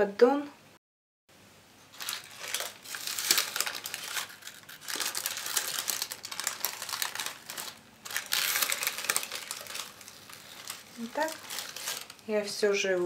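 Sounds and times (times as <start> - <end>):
baking paper crinkling: 1.9 - 13.0.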